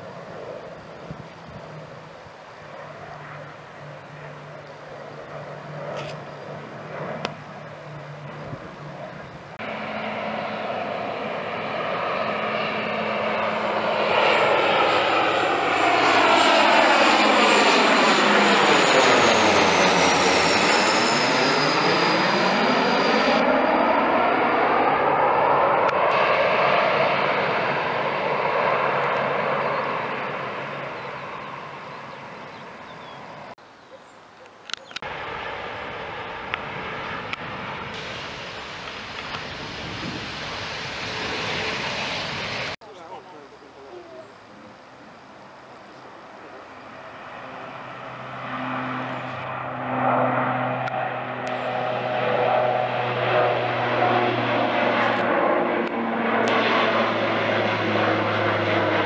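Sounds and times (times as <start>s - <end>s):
distant propeller drone: 0.0s - 59.0s
turboprop engine whine: 0.0s - 59.0s.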